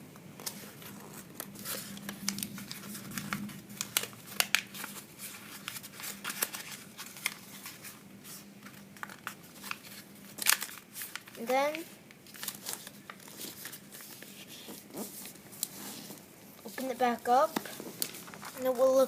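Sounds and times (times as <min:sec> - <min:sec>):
paper folding and crinkling: 0:00.3 - 0:19.0.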